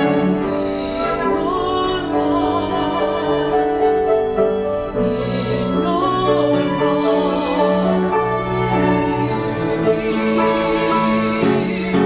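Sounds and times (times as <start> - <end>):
chamber ensemble playing: 0.0 - 12.0
woman singing classical song: 0.0 - 12.0.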